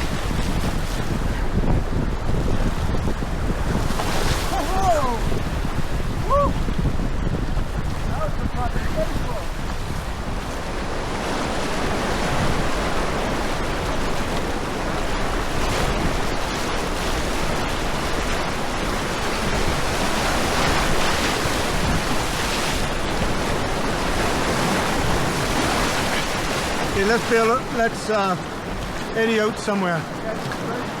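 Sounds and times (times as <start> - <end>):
whitewater rushing: 3.4 - 6.8, 8.1 - 31.0.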